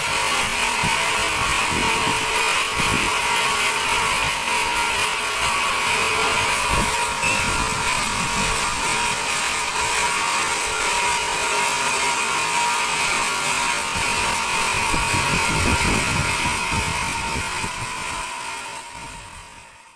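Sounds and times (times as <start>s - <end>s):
band sawmill whining: 0.0s - 19.7s.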